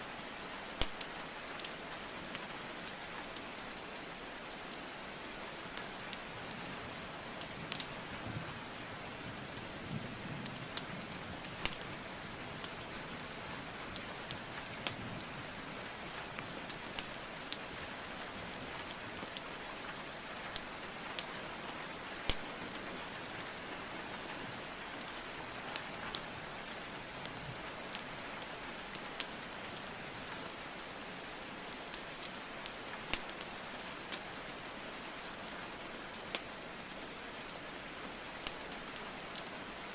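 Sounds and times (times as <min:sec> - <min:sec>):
rainfall hiss: 0:00.0 - 0:39.9
wood fire crackling: 0:00.3 - 0:03.7, 0:05.6 - 0:39.9.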